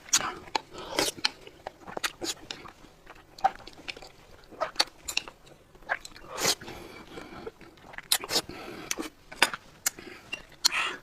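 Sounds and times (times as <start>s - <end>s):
chewing with wet mouth smacks: 0.0s - 11.0s.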